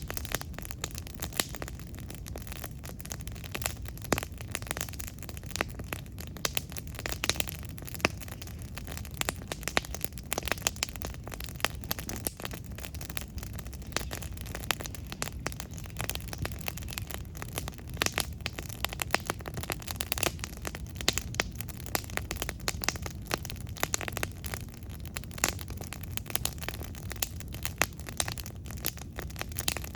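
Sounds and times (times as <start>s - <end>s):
campfire pops and crackles: 0.0s - 29.9s
low rumble of flames: 0.0s - 29.9s.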